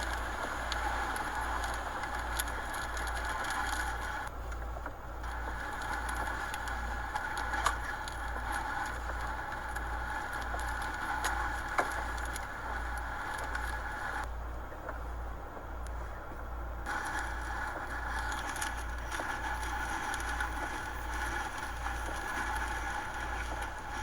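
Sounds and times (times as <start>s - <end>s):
steady hiss: 0.0s - 4.3s, 5.2s - 14.4s, 15.9s - 24.0s.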